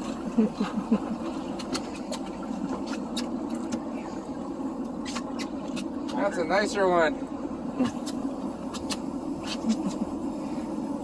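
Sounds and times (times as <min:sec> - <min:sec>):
boat motor idling: 0:00.0 - 0:11.0.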